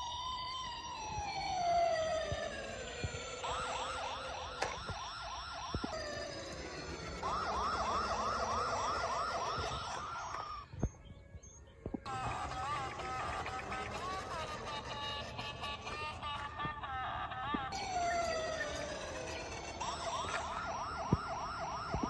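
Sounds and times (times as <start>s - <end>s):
electronic toy police siren: 0.0s - 22.0s.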